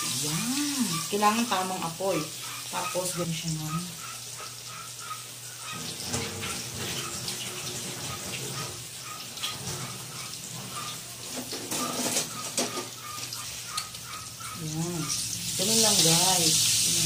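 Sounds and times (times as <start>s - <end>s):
chicken frying in oil: 0.0s - 17.0s.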